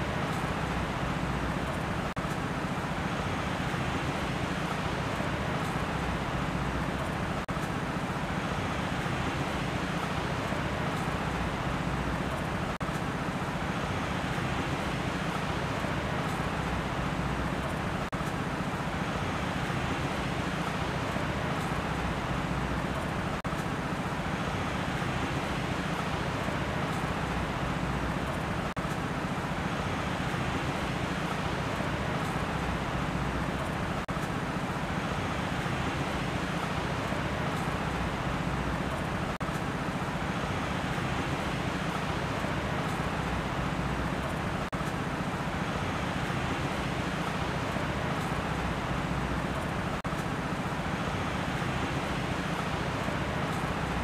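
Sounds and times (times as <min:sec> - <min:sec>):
steady rushing ambient noise: 0:00.0 - 0:54.0.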